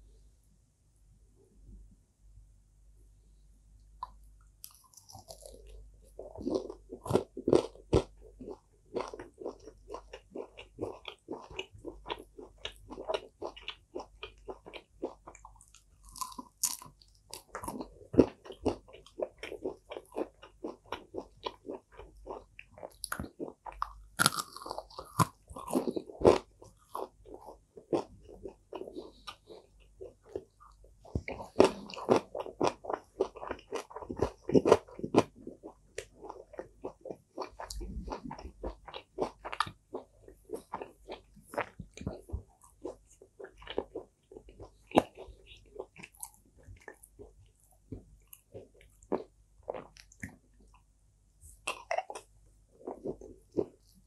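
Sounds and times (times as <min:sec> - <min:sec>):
crunching bites and chewing: 0:04.0 - 0:50.4.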